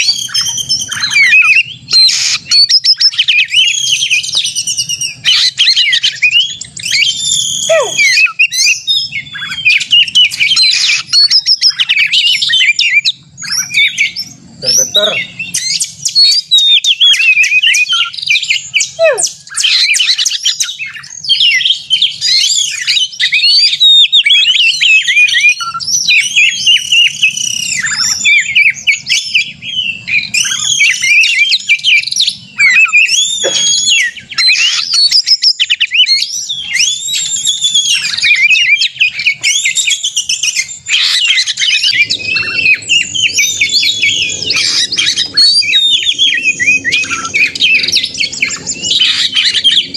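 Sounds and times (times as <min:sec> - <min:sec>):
bird singing whistles and trills: 0:00.0 - 0:49.9.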